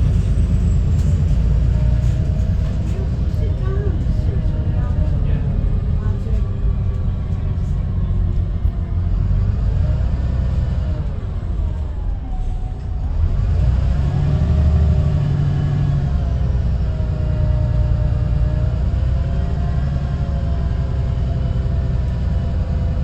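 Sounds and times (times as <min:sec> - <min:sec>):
bus engine rumble and whine: 0:00.0 - 0:23.0.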